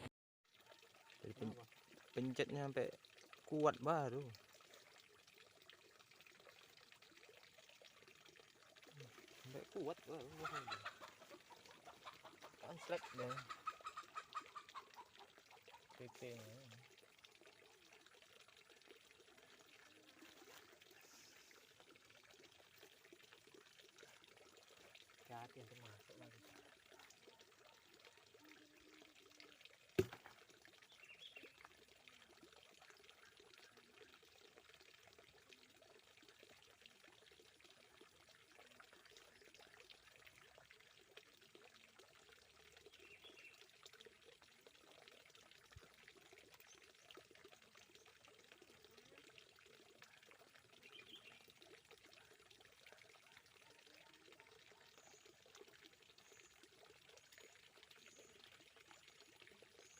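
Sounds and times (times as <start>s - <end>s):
running water trickle: 0.0s - 59.9s.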